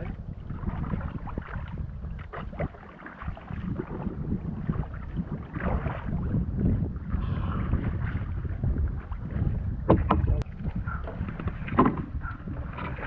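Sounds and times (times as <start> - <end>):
paddle splashing in water: 0.0 - 13.0
water moving along hull: 0.0 - 13.0
wind rumble on microphone: 0.0 - 13.0.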